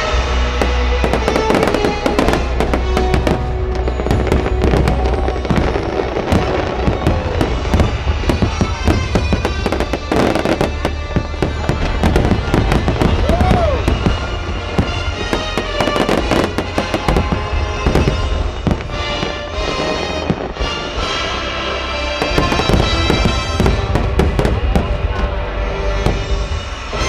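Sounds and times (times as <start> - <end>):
fireworks bangs and crackles: 0.0 - 27.0
music: 0.0 - 27.0.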